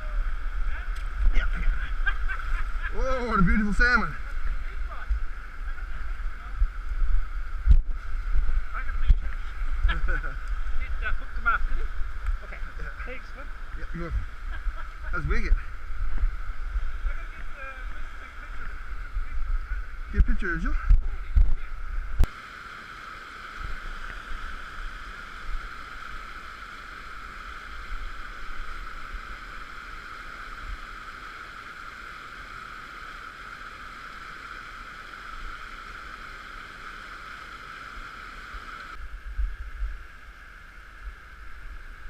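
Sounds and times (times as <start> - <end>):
brook water rushing: 0.0 - 39.3.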